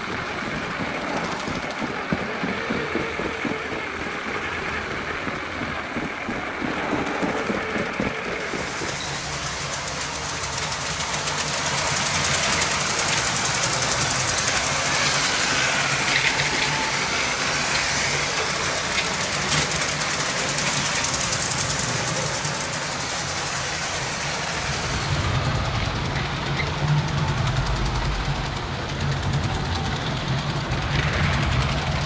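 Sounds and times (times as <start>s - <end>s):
toy train motor hum: 0.0s - 32.0s
wheels clicking over rails: 0.0s - 32.0s.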